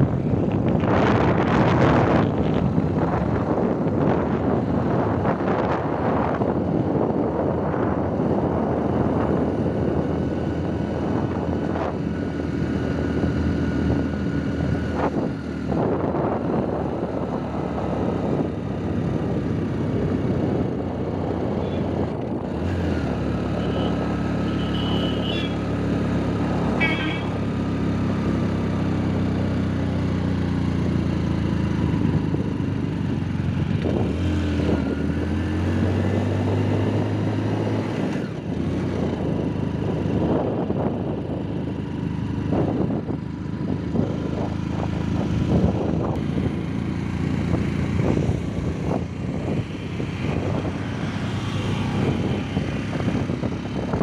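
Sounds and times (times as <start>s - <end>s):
wind rushing over microphone: 0.0s - 24.3s, 25.6s - 54.0s
motorcycle engine running: 0.0s - 54.0s.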